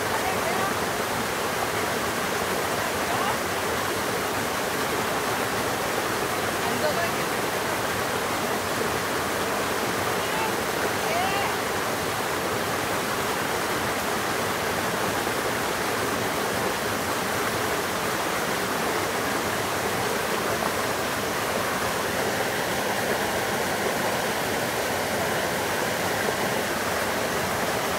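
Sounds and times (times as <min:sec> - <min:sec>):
waterfall rushing and splashing: 0:00.0 - 0:27.9.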